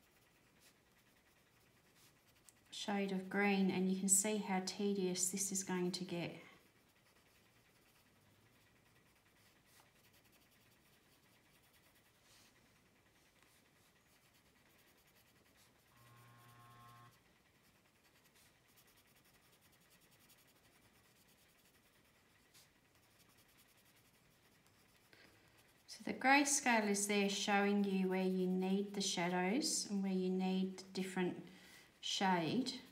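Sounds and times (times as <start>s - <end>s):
pencil scratching on paper: 0.0s - 30.0s.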